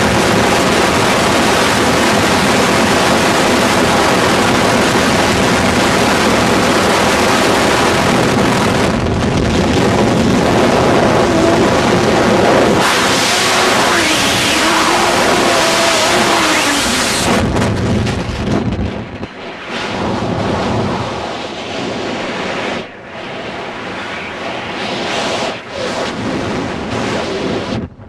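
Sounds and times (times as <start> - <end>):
gusty wind buffeting: 0.0 - 28.0
wind rushing over microphone: 0.0 - 28.0.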